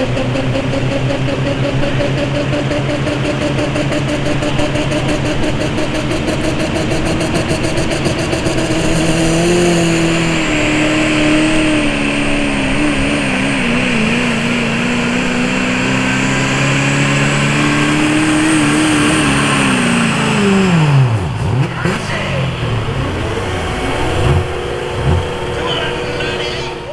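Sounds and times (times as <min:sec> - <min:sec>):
diesel engine running hard: 0:00.0 - 0:26.9.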